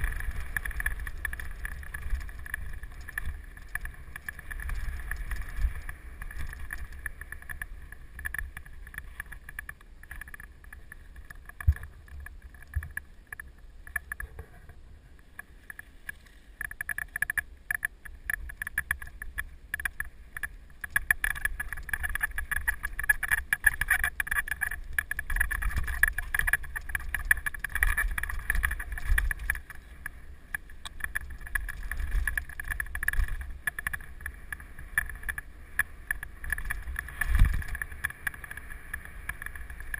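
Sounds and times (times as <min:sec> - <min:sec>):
bike rattling over bumps: 0:00.0 - 0:14.8, 0:16.5 - 0:39.9
wind rumble on microphone: 0:00.0 - 0:15.2, 0:18.0 - 0:39.9.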